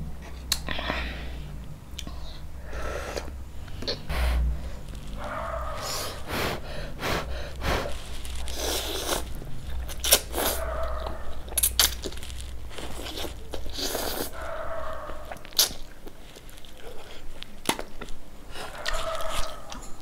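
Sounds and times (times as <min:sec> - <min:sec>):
slurping and chewing noodles: 0:03.1 - 0:20.0.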